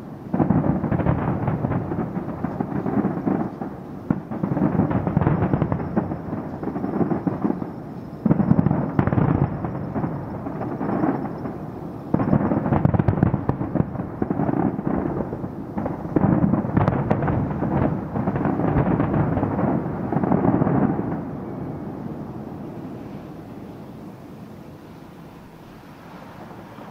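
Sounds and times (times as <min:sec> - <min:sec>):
fireworks bursting and crackling: 0:00.0 - 0:26.9.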